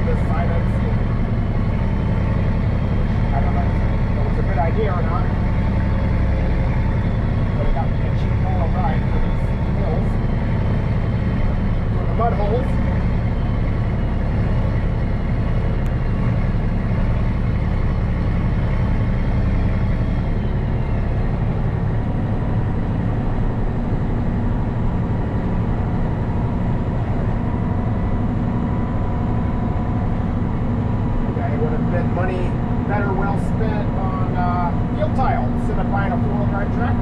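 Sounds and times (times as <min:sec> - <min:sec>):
diesel tractor engine under load: 0:00.0 - 0:37.0.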